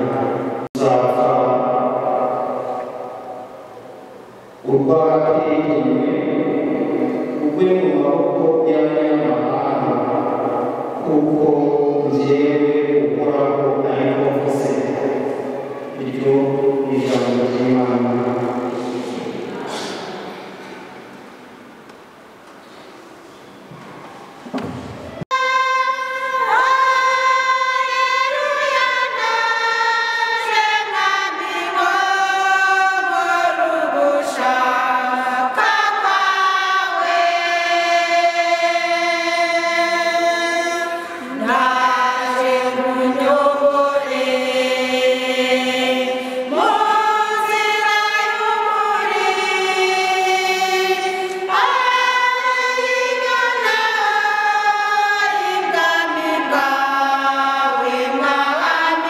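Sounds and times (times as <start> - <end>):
choir singing a hymn: 0.0 - 21.9, 24.6 - 59.0.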